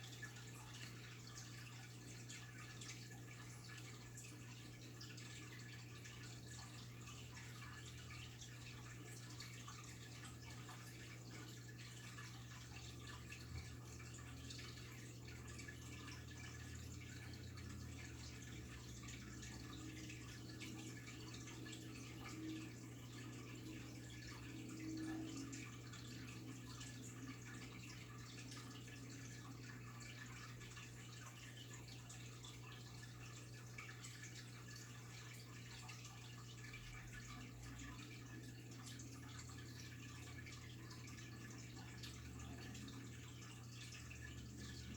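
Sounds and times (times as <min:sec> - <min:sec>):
pump humming: 0:00.0 - 0:44.9
water dripping and trickling: 0:00.0 - 0:44.9.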